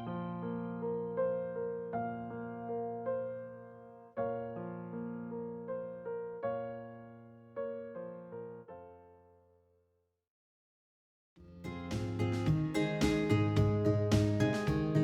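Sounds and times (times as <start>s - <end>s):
slow piano piece: 0.0s - 9.7s, 11.5s - 15.0s.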